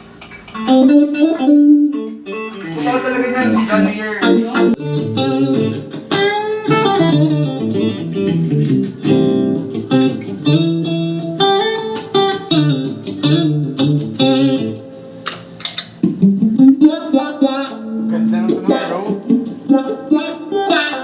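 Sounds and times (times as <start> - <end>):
electric guitar playing: 0.2 - 21.0.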